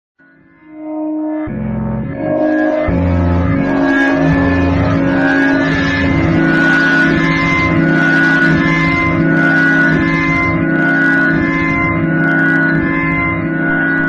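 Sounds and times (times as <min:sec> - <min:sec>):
distorted organ-like drone music: 0:00.4 - 0:14.0
harsh noisy wash: 0:02.1 - 0:14.0.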